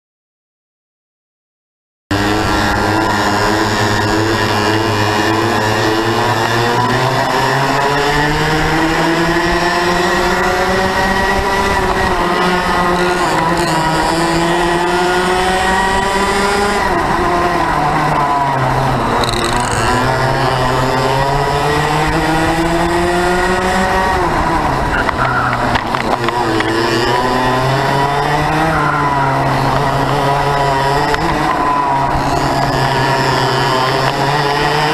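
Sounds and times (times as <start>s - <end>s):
go-kart engine racing: 2.1s - 34.9s.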